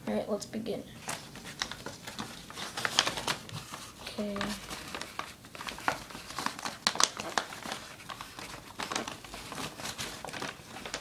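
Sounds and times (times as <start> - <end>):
paper bag crinkling: 1.0 - 11.0.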